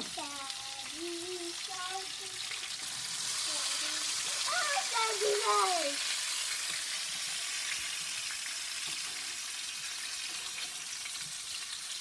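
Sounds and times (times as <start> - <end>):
cutlets sizzling in hot oil: 0.0 - 12.0.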